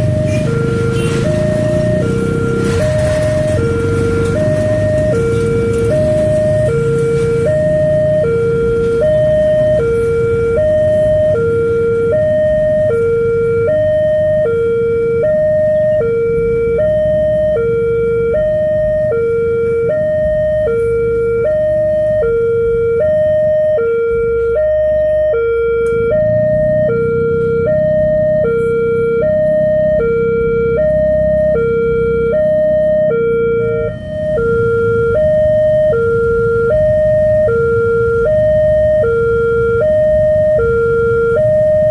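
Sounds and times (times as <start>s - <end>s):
two-tone crossing siren: 0.0s - 41.9s.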